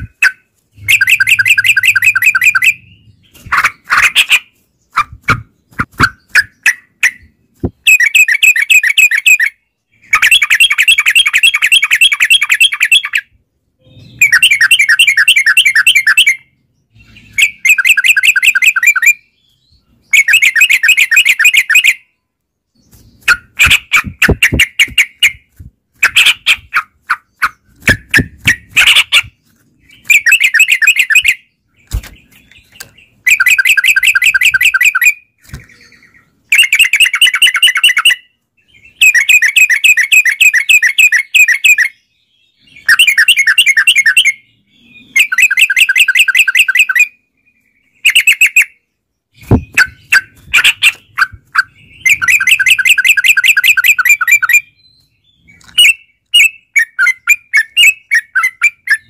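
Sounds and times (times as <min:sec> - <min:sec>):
bulbuls singing: 0:00.0 - 0:59.0.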